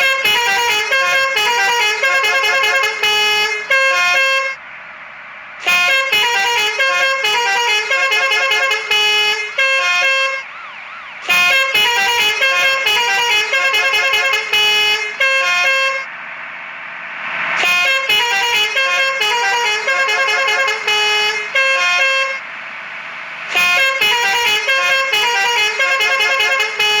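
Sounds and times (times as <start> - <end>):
multi-tone air horn melody: 0.0 - 4.6, 5.6 - 16.1, 17.6 - 22.4, 23.5 - 27.0.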